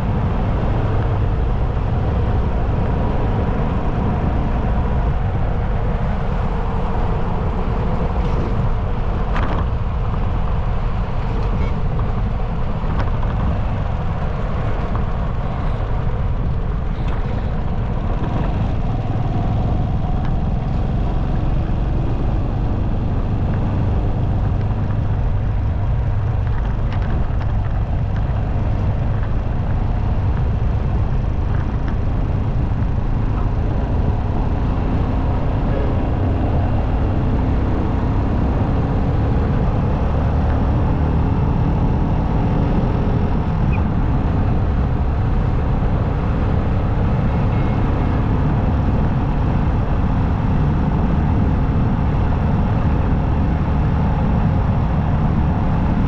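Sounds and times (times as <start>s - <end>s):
motorcycle engine and wind rumble: 0.0s - 56.0s.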